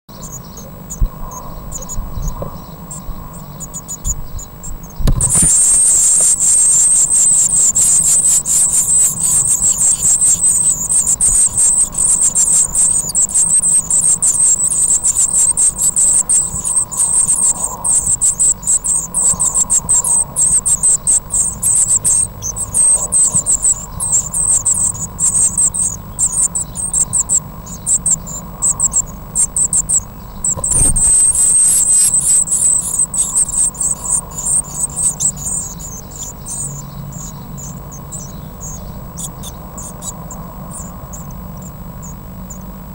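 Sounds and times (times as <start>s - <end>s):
nestlings cheeping: 0.1s - 42.7s.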